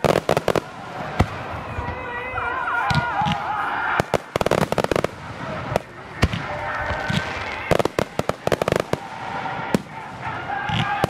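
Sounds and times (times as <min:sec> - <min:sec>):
firework crackling pops: 0:00.0 - 0:01.5, 0:02.9 - 0:11.0.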